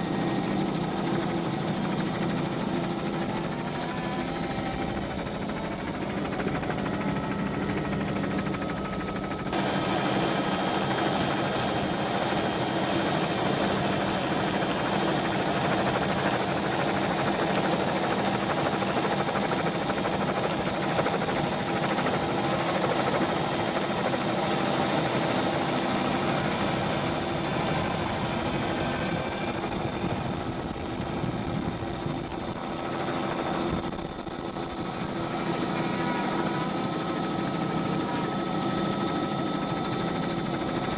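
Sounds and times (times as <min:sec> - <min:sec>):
drone motor and rotor hum: 0:00.0 - 0:40.9.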